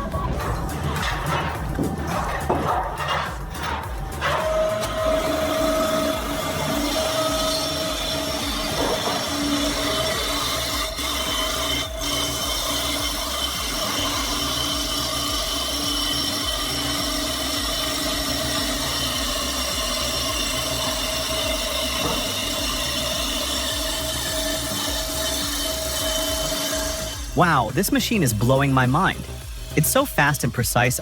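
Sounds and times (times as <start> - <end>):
power saw cutting wood: 0.0 - 31.0.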